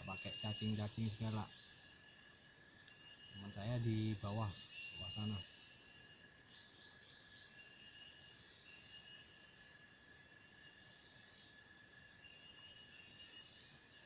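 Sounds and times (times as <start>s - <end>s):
background hiss: 0.0s - 14.0s
insects buzzing: 0.0s - 14.0s.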